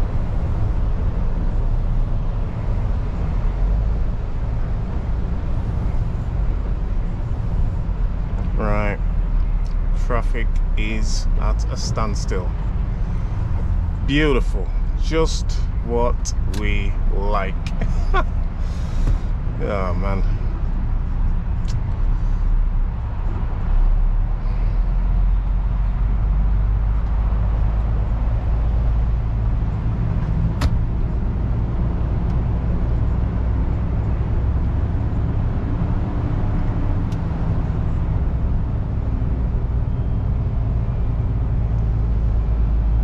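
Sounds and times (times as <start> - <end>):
diesel engine droning: 0.0 - 43.0
road and cab noise: 0.0 - 43.0.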